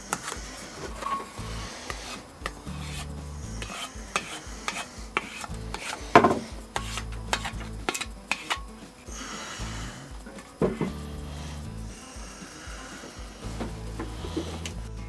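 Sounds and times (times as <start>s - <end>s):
hand rubbing and scraping: 0.0s - 15.0s.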